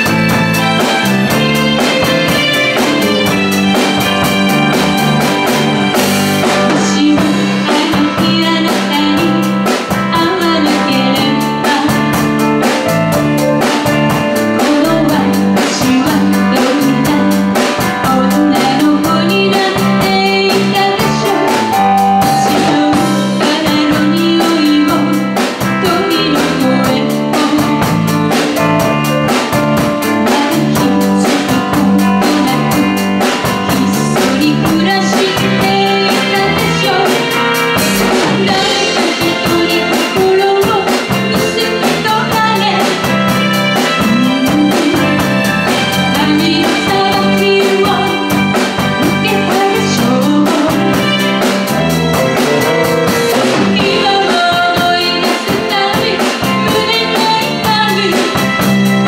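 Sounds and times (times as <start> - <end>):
drum kit: 0.0 - 59.0
electric bass: 0.0 - 59.0
electric guitar: 0.0 - 59.0
keyboard: 0.0 - 59.0
woman singing: 6.4 - 12.9, 14.4 - 28.9, 30.0 - 52.6, 53.4 - 58.8.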